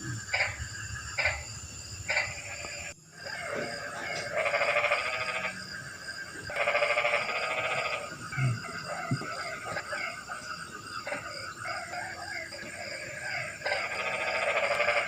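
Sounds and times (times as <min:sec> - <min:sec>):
frogs calling with pulsing calls: 0:00.0 - 0:15.0.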